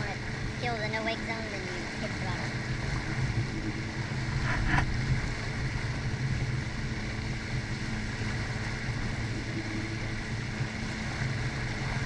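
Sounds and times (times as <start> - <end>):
jet ski engine idling: 0.0 - 12.0.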